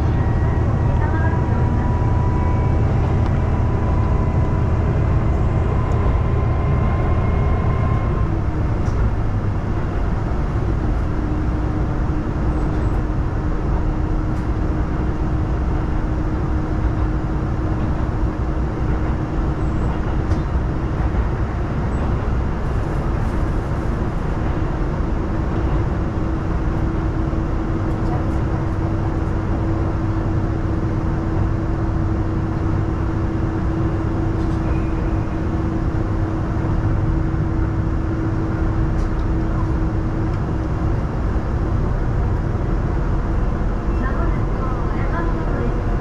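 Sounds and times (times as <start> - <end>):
diesel railcar rumbling: 0.0 - 46.0.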